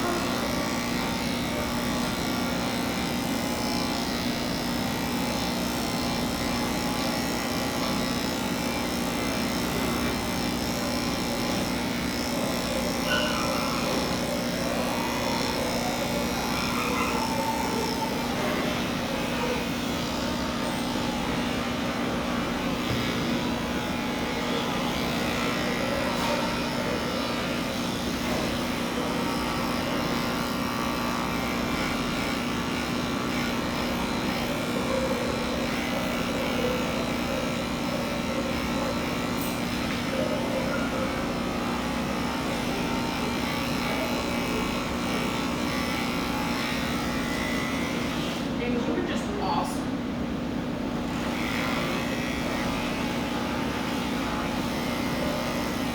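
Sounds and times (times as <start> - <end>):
electric clippers humming: 0.0 - 55.9.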